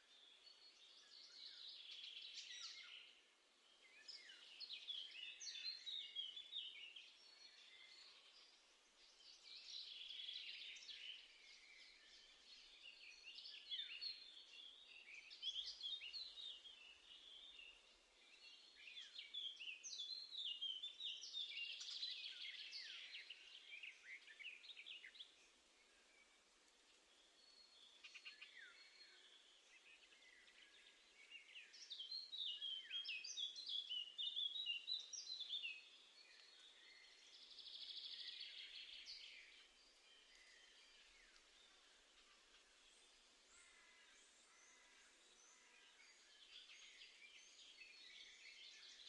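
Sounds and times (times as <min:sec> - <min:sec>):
songbirds singing and chirping: 0:00.0 - 0:49.0.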